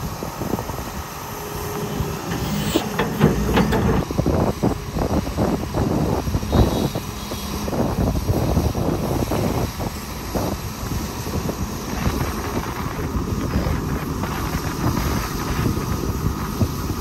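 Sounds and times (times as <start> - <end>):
excavator diesel engine running: 0.0 - 17.0
wind noise on microphone: 0.0 - 17.0.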